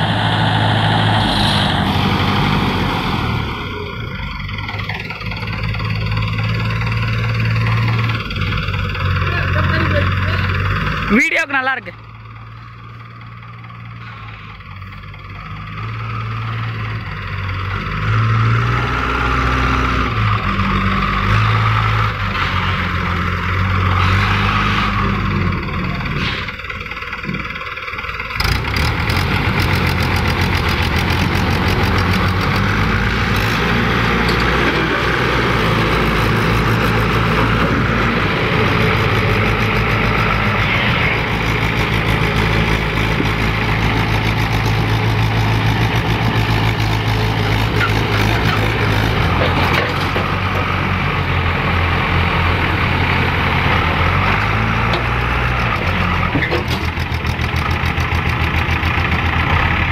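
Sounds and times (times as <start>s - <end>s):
backhoe loader engine: 0.0s - 59.9s
tractor diesel engine under load: 0.0s - 59.9s.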